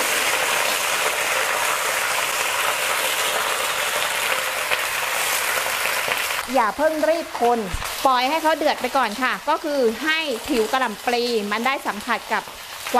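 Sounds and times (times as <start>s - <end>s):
cabbage sizzling in hot oil: 0.0s - 12.9s.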